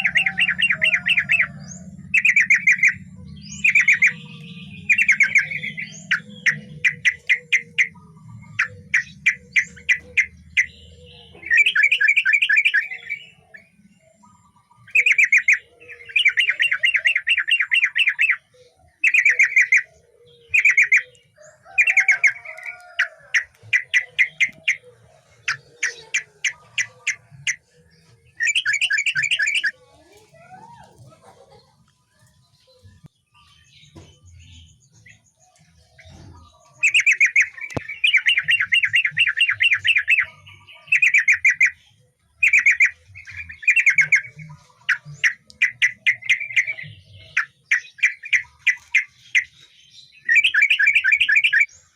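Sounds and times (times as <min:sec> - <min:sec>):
bird singing bubbling phrases: 0:00.0 - 0:51.9.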